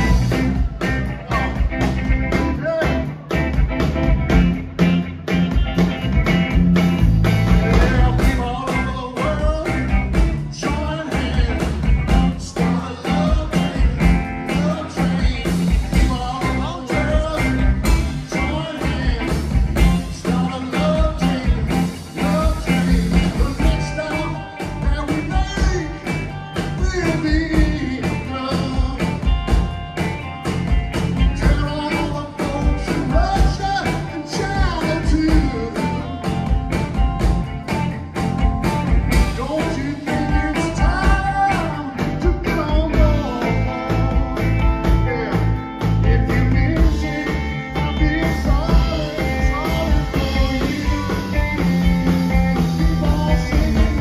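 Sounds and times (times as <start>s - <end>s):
drum kit steady beat: 0.0s - 54.0s
electric bass: 0.0s - 54.0s
electric guitar: 0.0s - 54.0s.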